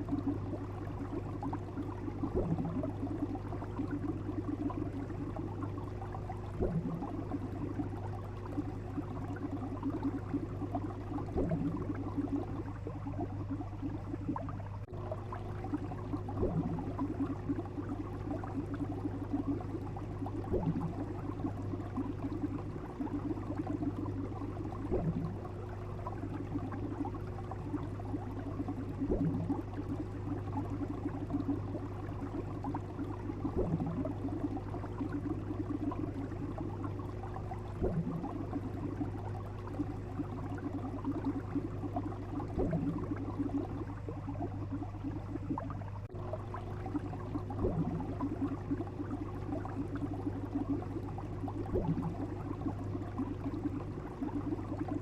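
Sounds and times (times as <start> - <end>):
low hum: 0.0 - 55.0
underwater bubbling: 0.0 - 55.0.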